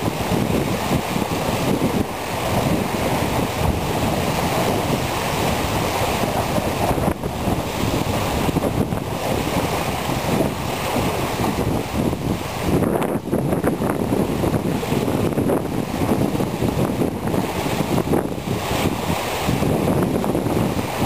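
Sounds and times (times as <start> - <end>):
waves lapping at shore: 0.0 - 21.0
wind buffeting microphone: 0.0 - 21.0.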